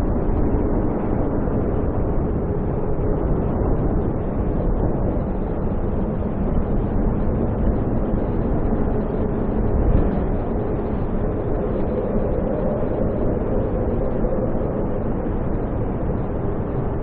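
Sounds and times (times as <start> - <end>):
snowstorm wind rushing: 0.0 - 17.0.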